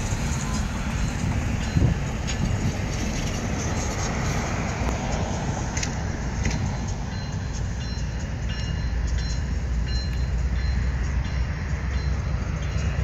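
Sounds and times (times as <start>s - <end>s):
distant train rumble: 0.0s - 13.0s.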